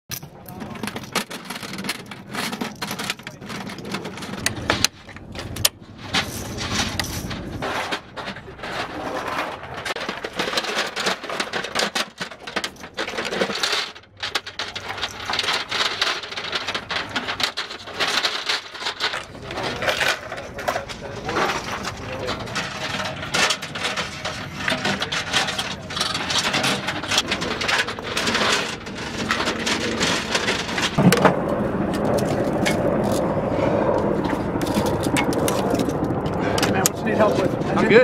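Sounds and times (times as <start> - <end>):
ammunition belts rattling: 0.1 - 31.0, 34.5 - 37.9.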